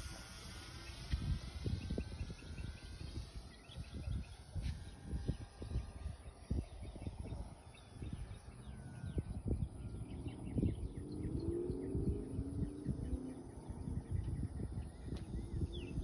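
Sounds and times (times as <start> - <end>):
faint hum: 0.0 - 16.0
small birds chirping: 0.0 - 16.0
wind buffeting microphone: 0.0 - 16.0.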